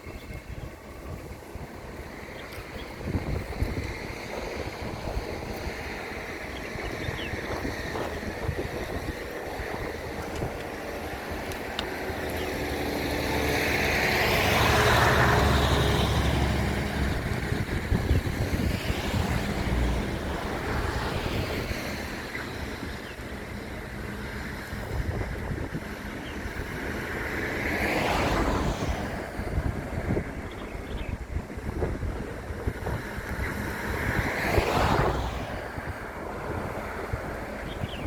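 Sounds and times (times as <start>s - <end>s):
wind on microphone: 0.0s - 38.0s
vehicle passing: 0.2s - 38.0s.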